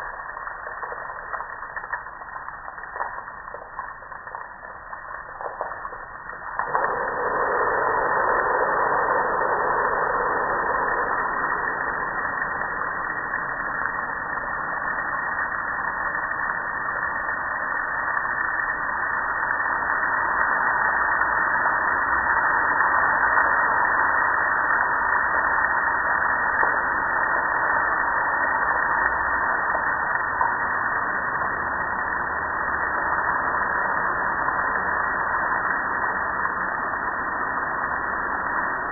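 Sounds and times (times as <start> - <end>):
water dripping: 0.0 - 38.9.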